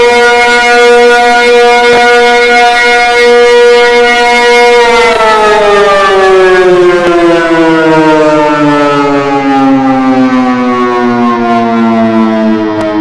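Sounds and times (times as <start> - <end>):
warning siren winding down: 0.0 - 13.0.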